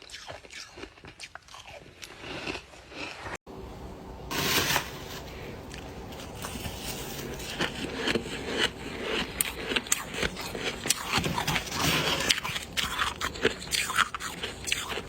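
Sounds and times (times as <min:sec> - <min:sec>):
ice crunching in mouth: 0:00.0 - 0:03.4, 0:05.7 - 0:15.0.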